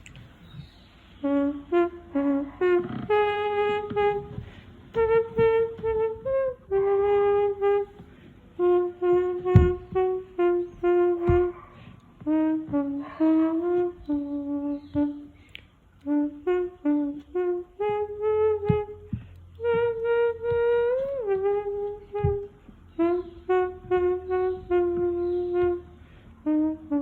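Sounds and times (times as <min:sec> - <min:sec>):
person imitating a trumpet: 0:01.2 - 0:27.0.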